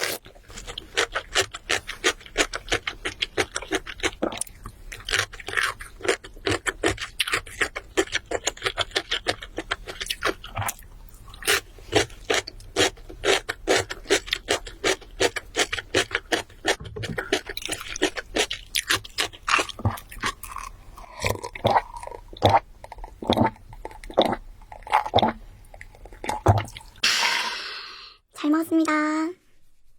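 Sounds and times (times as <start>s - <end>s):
crunchy food chewing: 0.0s - 26.9s.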